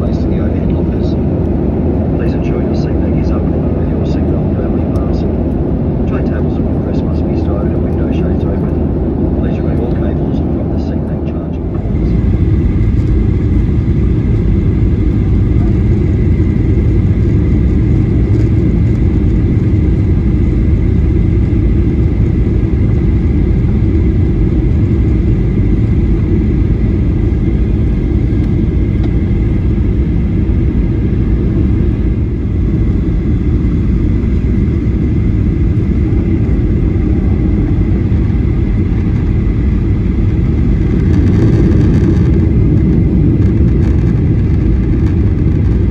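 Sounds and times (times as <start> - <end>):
aircraft cabin engine rumble: 0.0 - 45.9.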